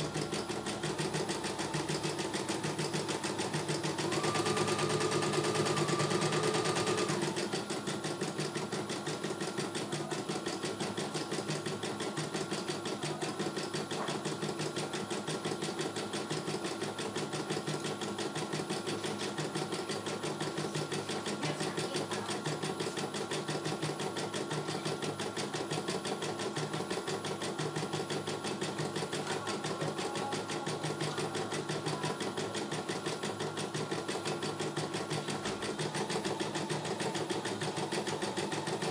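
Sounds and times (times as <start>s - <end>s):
embroidery machine needle stitching: 0.0s - 38.9s.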